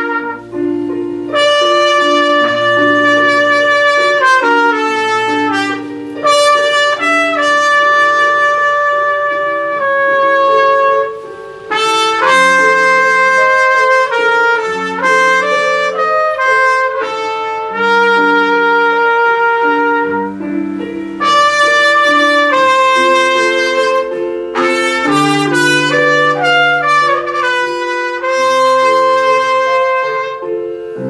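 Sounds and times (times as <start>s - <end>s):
backing track bass and chords: 0.0s - 29.8s
trumpet playing slow melody: 0.0s - 31.0s.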